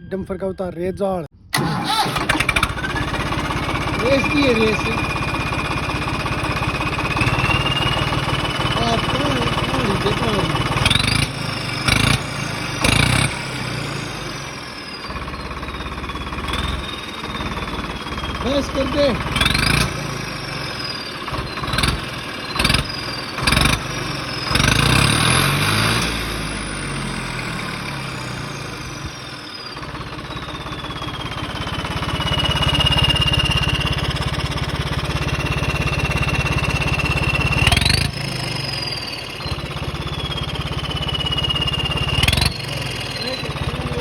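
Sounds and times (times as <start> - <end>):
tractor diesel engine revving: 1.3 - 44.0
turbo whistle: 3.8 - 26.6, 28.1 - 34.3, 35.0 - 44.0.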